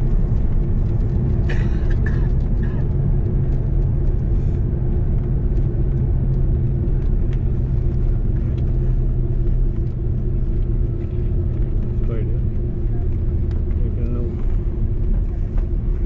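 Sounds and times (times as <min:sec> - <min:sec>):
aircraft cabin rumble and hum: 0:00.0 - 0:16.0.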